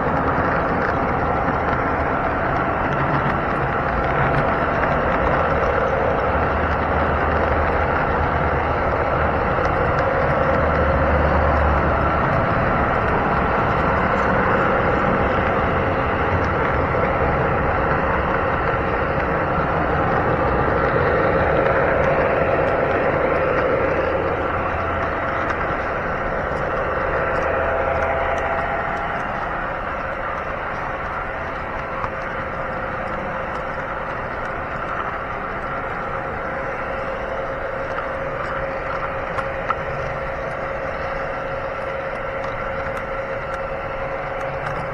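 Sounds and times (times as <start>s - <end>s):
locomotive motor whine: 0.0s - 44.9s
model train wheels rolling on rails: 0.0s - 44.9s.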